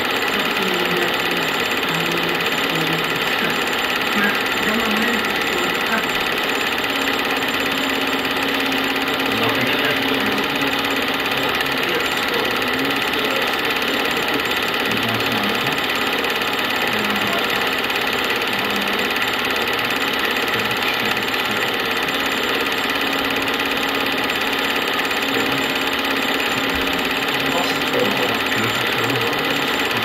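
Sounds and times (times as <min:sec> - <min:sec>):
film projector whirring: 0:00.0 - 0:30.0.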